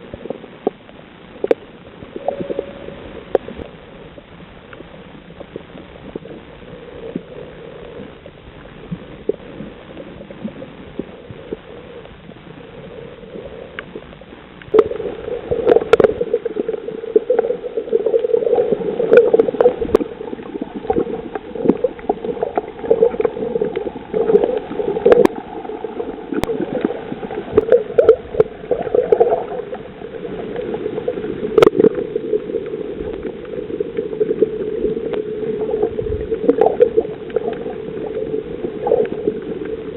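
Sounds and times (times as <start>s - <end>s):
muffled underwater hum: 0.0s - 39.9s
underwater clicks and crackles: 0.0s - 39.9s.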